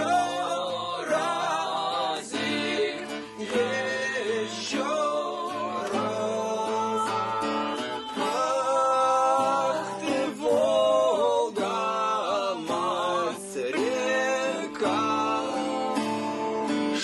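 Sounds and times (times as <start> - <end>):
man singing: 0.0 - 17.0
strummed acoustic guitar: 0.0 - 17.0.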